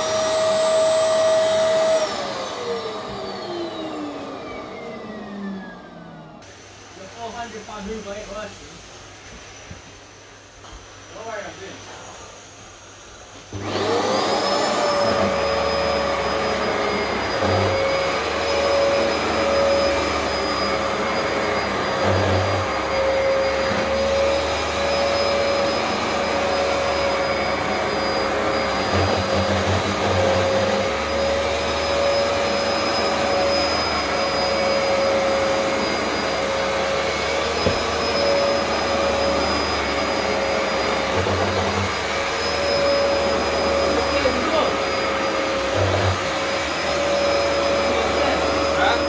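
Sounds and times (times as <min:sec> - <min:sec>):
carpet washer motor whine: 0:00.0 - 0:11.1, 0:11.9 - 0:49.0.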